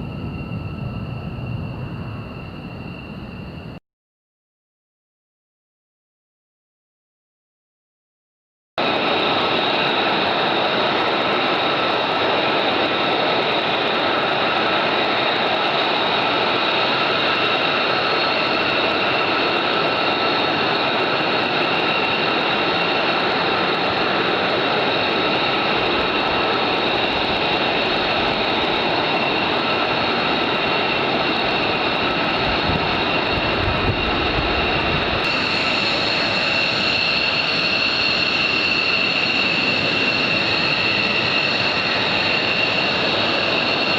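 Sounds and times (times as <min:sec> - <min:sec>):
high engine whine: 0:00.0 - 0:03.8, 0:08.8 - 0:43.9
jet engines roaring: 0:00.0 - 0:03.8, 0:08.8 - 0:43.9.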